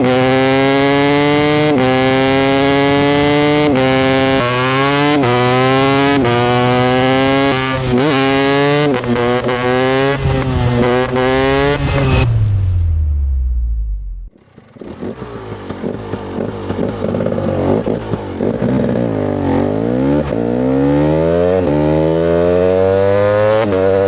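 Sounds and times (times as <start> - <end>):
motorcycle engine revving high: 0.0 - 24.0.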